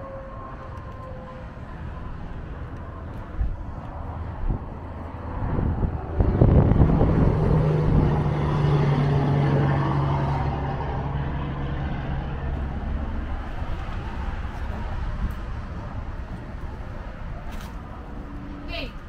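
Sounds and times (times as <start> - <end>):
heavy truck passing: 0.0 - 19.0.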